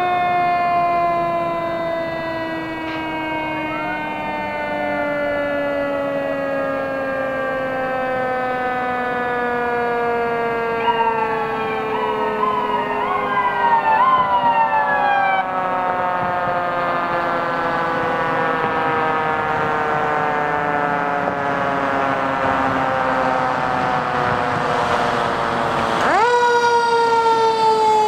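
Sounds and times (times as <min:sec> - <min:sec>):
siren rising and falling sweeps: 0:00.0 - 0:28.0
siren winding down: 0:00.0 - 0:28.0.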